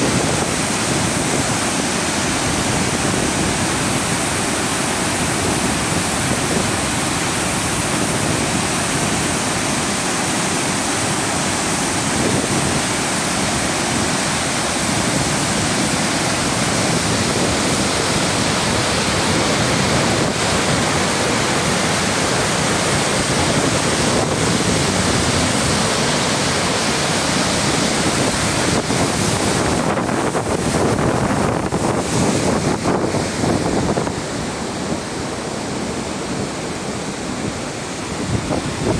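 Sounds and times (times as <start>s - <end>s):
white water roaring over rocks: 0.0s - 38.9s.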